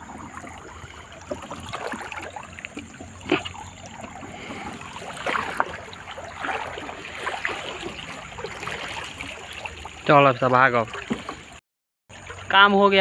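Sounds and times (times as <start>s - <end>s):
shallow water splashing: 0.0s - 13.0s.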